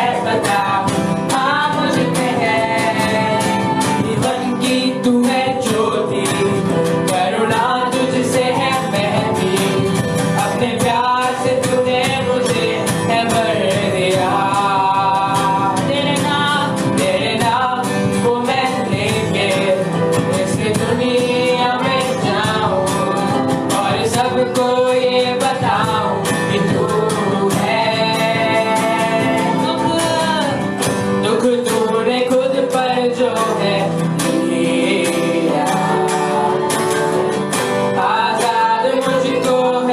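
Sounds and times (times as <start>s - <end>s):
guitar and band accompaniment: 0.0s - 39.9s.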